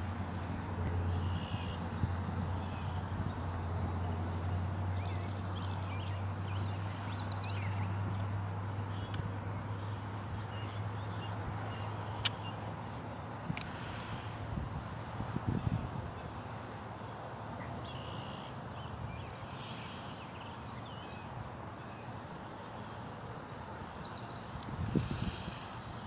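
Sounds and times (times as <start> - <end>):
birds chirping and trilling: 0.4 - 14.4, 15.0 - 26.0.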